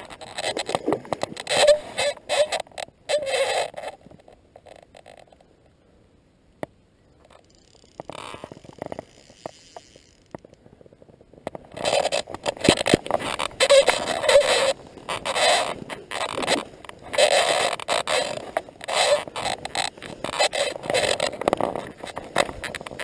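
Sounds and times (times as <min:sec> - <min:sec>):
grass and reeds rustling: 0:00.0 - 0:05.5, 0:07.1 - 0:23.0.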